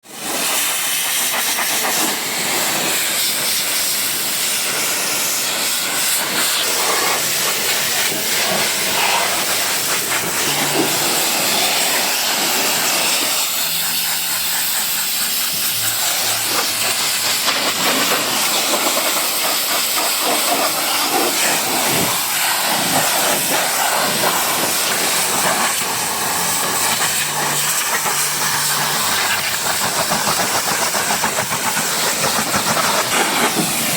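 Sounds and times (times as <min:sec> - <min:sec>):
pressure washer water spraying: 0:00.1 - 0:33.9.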